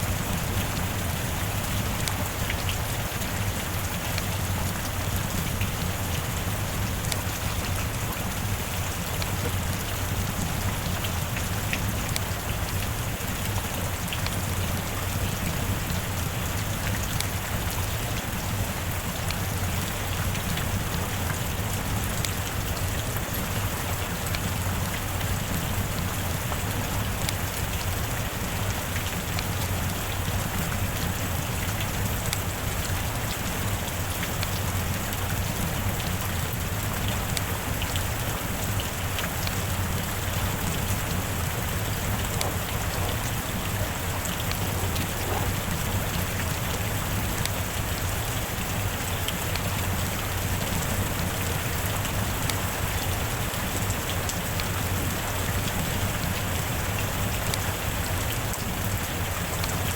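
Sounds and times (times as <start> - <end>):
heavy rain: 0.0 - 59.9
raindrop ticks: 0.1 - 59.9.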